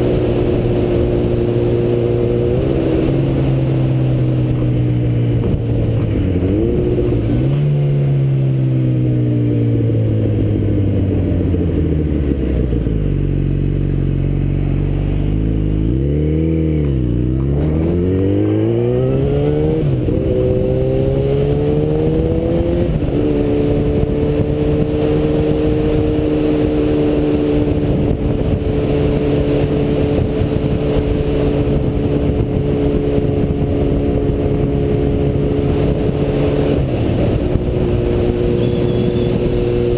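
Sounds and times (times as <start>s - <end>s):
wind noise on microphone: 0.0s - 9.0s, 14.8s - 39.9s
motorcycle engine revving: 0.0s - 39.9s.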